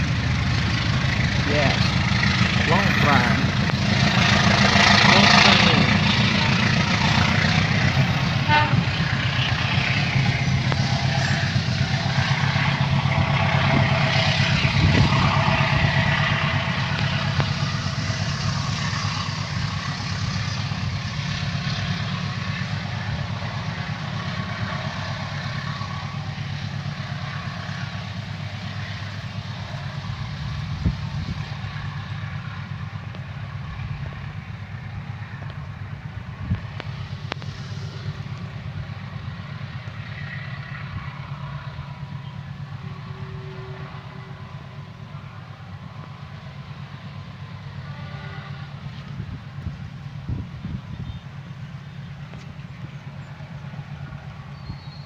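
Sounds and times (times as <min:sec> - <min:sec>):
diesel locomotive engine drone: 0:00.0 - 0:55.0
train rolling noise: 0:00.0 - 0:55.0.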